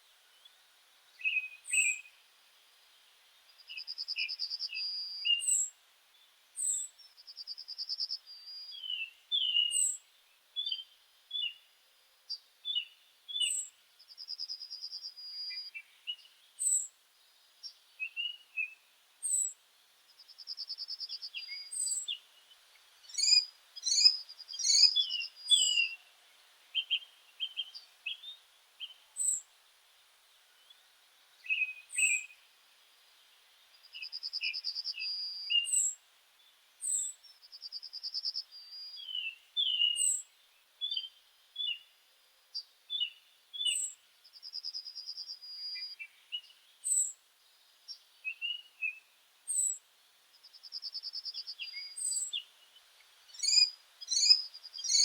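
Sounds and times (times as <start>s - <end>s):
songbirds chirping and whistling: 0.3s - 2.2s, 3.0s - 11.7s, 12.3s - 29.5s, 30.5s - 42.0s, 42.6s - 55.0s.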